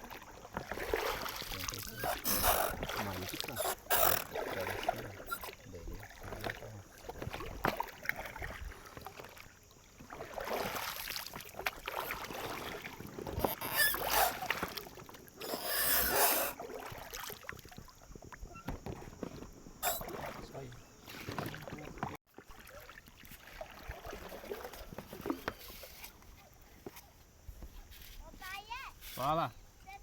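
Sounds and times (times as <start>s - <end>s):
river water splashing: 0.0s - 26.6s.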